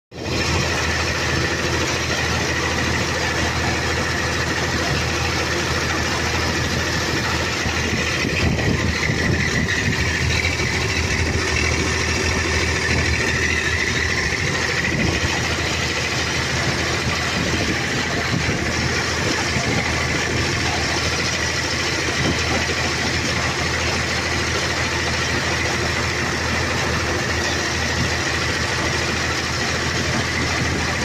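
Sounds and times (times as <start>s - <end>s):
tractor engine and baler drone: 0.1s - 31.0s.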